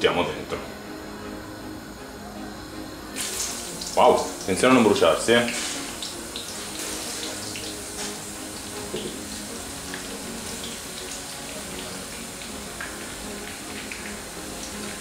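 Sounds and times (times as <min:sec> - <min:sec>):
food sizzling in hot oil: 0:00.9 - 0:15.0.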